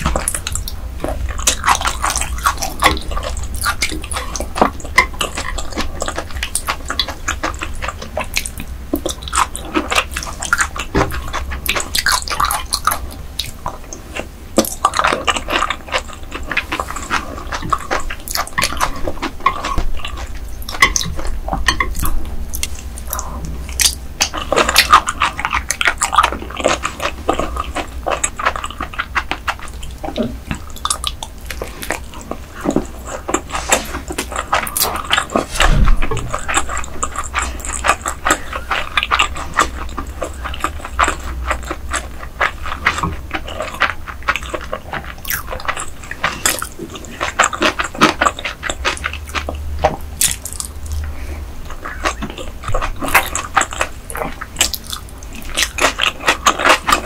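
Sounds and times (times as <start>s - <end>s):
wet chewing mouth sounds: 0.0s - 57.0s.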